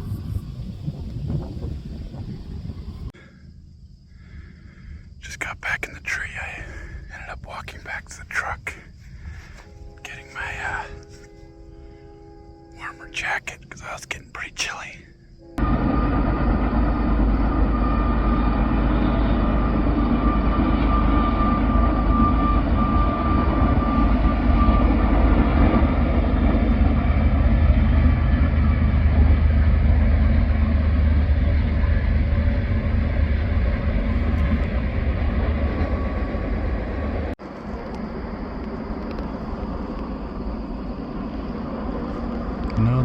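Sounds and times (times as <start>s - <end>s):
faint high whine: 0.0s - 43.0s.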